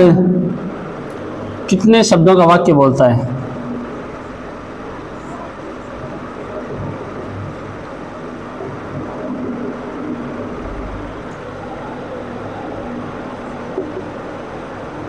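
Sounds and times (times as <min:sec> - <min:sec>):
faint continuous hum: 0:00.0 - 0:15.0
low background rumble: 0:00.0 - 0:15.0.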